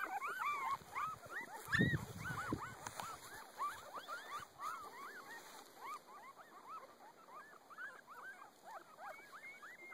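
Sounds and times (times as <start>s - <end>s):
puppies squeaking and whimpering: 0.0s - 9.9s.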